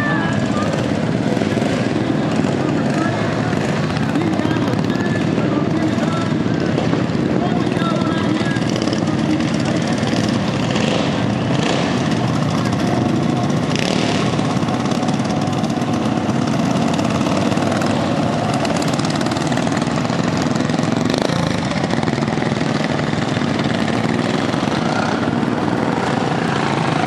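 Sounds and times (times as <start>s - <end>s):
lawn mower engines droning: 0.0s - 27.0s.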